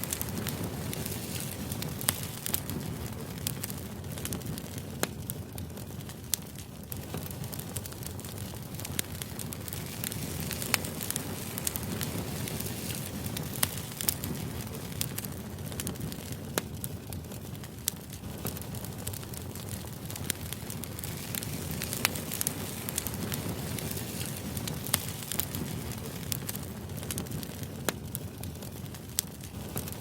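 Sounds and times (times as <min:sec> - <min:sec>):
fire crackling and popping: 0:00.0 - 0:30.0
low fire rumble: 0:00.0 - 0:30.0.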